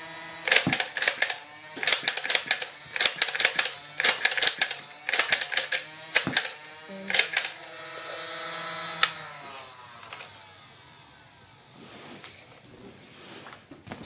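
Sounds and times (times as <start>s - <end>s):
toy blaster firing bursts: 0.0s - 11.6s.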